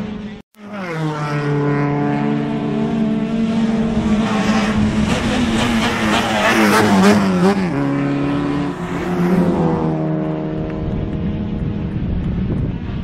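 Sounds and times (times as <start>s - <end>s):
engine drone: 0.0s - 13.0s
race car engine passing: 0.1s - 13.0s.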